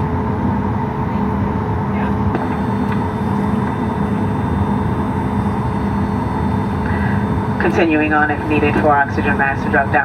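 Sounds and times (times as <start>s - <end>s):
airliner cabin air rush: 0.0s - 10.0s
cabin hum: 0.0s - 10.0s
faint steady whining tones: 0.0s - 10.0s.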